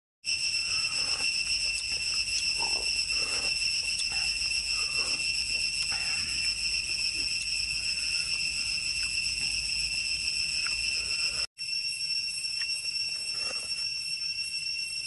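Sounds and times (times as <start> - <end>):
insects shrilling: 0.3 - 15.0.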